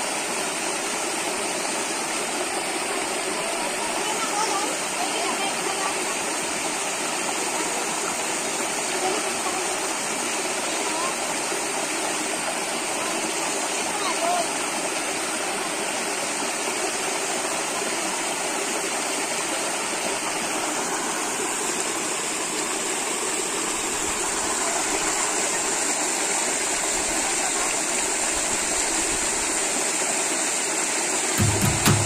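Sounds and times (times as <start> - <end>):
stream rushing over boulders: 0.0 - 32.0.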